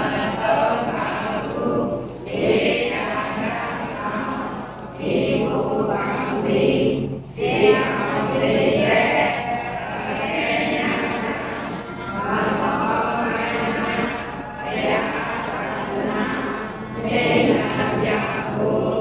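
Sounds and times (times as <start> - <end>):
voices chanting in unison: 0.0 - 19.0.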